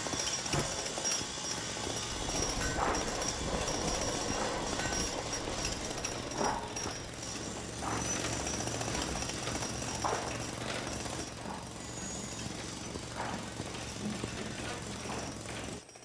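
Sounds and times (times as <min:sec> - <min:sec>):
jackhammer hammering into rock: 0:00.0 - 0:16.0.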